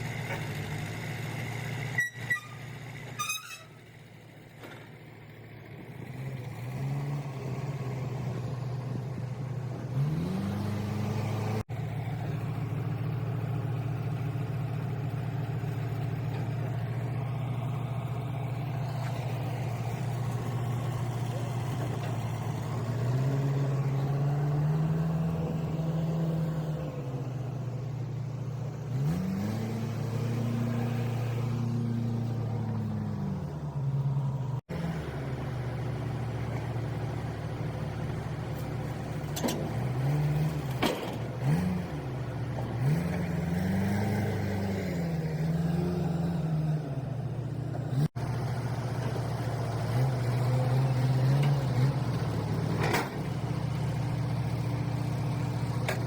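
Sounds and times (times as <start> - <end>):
vehicle engine revving: 5.9 - 56.0.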